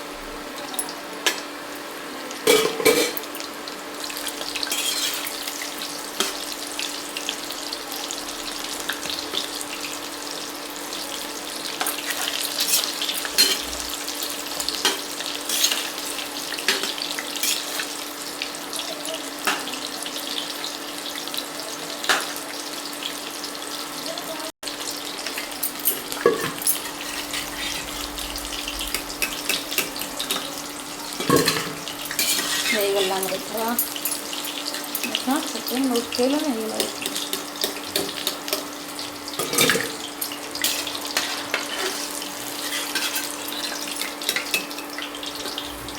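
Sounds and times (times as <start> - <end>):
deep-frying sizzle with pops: 0.0 - 45.9.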